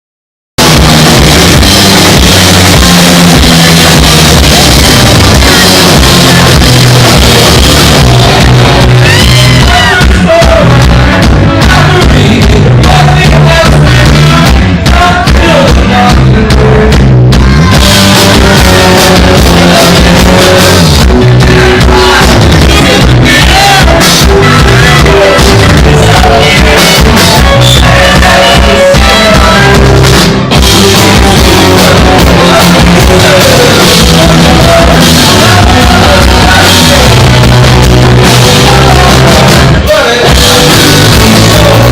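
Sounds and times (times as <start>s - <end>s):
drums: 0.6s - 41.9s
rock band playing live: 0.6s - 41.9s
shouted singing: 0.6s - 41.9s.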